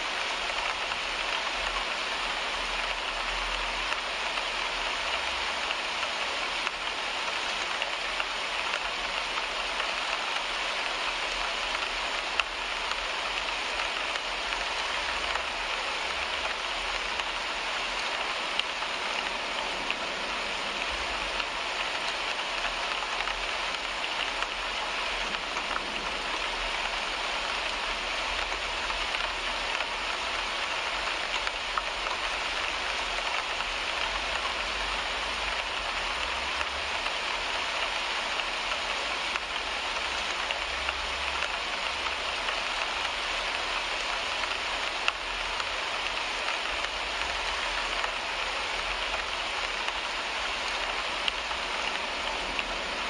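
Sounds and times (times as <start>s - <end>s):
rain on a car windshield: 0.0s - 53.0s.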